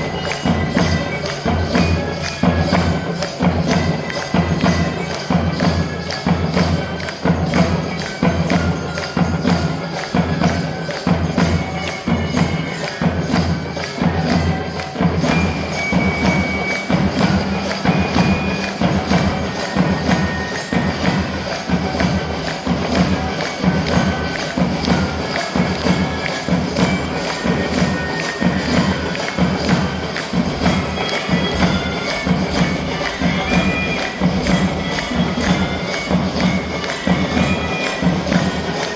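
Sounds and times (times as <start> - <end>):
fast drumbeats: 0.0 - 38.9
jingling percussion: 0.0 - 38.9.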